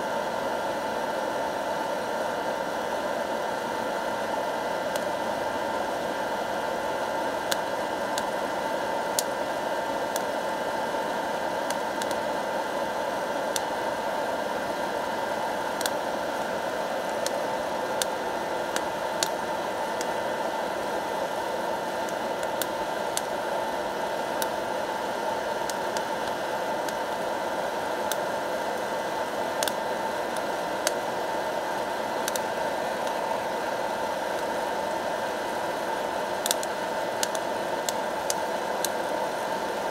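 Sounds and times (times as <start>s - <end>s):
fan blowing hot air: 0.0s - 39.9s.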